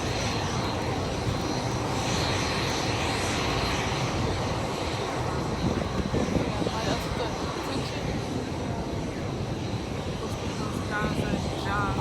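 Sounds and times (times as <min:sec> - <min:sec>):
jet engines in flight: 0:00.0 - 0:12.0.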